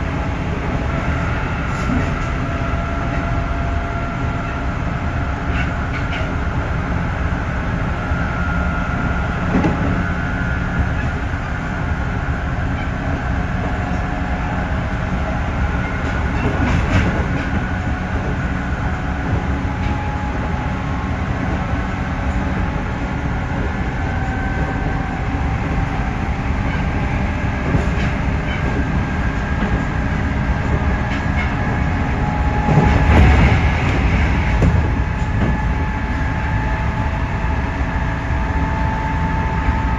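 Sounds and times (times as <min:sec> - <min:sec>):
train rattling: 0:00.0 - 0:39.9
train wheels rumbling on rail: 0:00.0 - 0:39.9.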